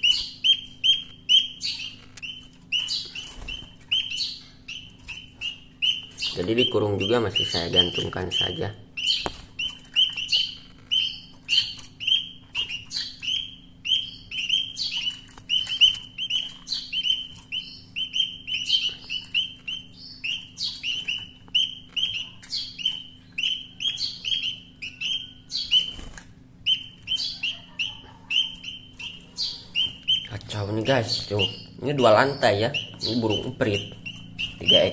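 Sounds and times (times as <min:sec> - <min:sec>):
nestling birds chirping: 0:00.0 - 0:34.9.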